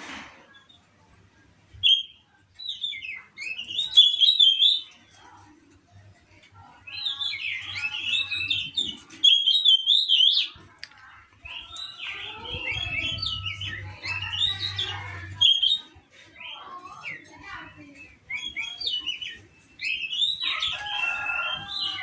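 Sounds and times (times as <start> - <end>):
bird singing whistles and chatters: 1.7 - 5.0, 6.8 - 10.6, 11.4 - 22.0.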